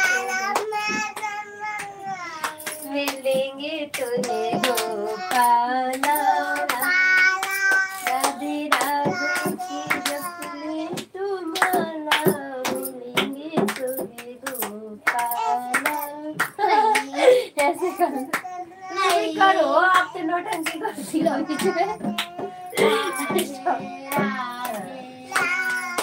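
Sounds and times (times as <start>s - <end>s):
rhythmic hand claps: 0.0s - 26.0s
group singing devotional song: 2.6s - 17.3s, 19.0s - 26.0s.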